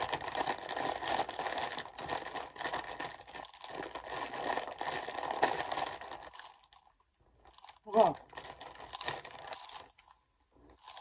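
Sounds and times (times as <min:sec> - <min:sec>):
snack bag crinkling: 0:00.0 - 0:11.0.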